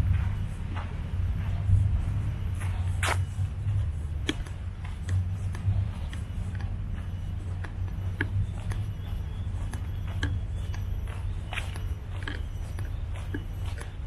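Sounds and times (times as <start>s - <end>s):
footsteps on a path: 0.0s - 14.0s
steady low rumble: 0.0s - 14.0s.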